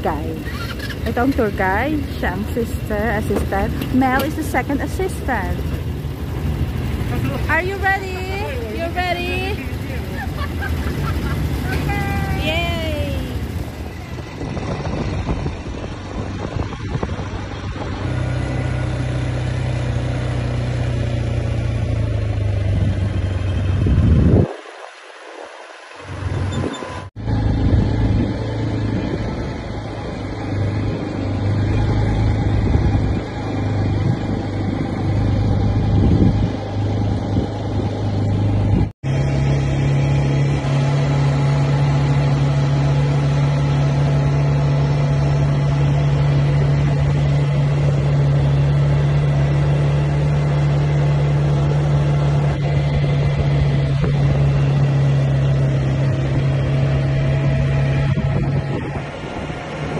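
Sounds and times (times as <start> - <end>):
quad bike engine running: 0.0 - 24.5, 25.6 - 59.9.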